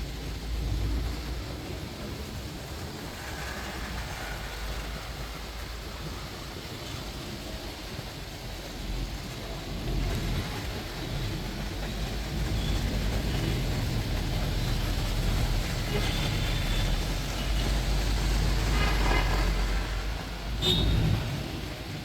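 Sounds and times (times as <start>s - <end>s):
moving bus rumble: 0.0s - 22.0s
street traffic: 0.0s - 22.0s.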